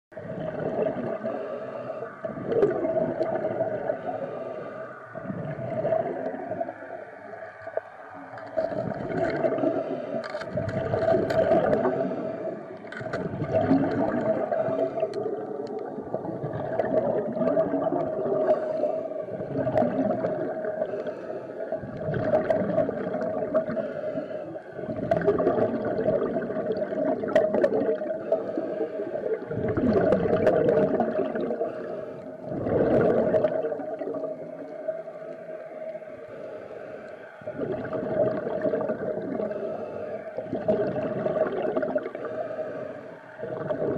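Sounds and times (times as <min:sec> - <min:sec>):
underwater hum: 0:00.1 - 0:43.9.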